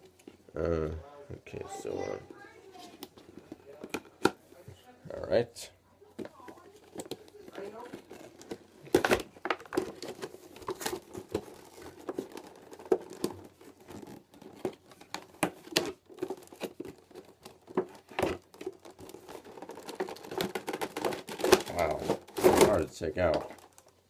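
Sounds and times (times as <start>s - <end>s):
plastic and cardboard packaging crinkling: 1.9s - 4.6s, 6.0s - 24.0s.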